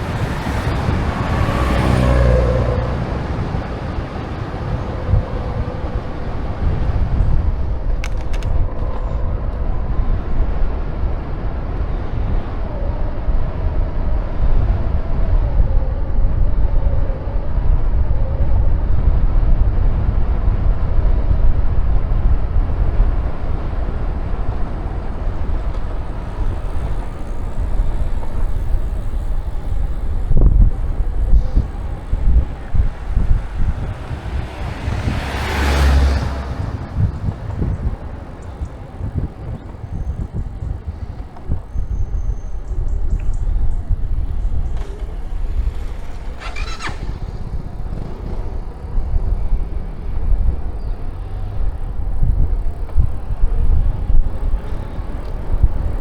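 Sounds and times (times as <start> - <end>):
vehicle passing: 0.0 - 15.4, 16.2 - 56.0
road and tyre noise: 0.0 - 56.0
wind buffeting microphone: 0.0 - 56.0.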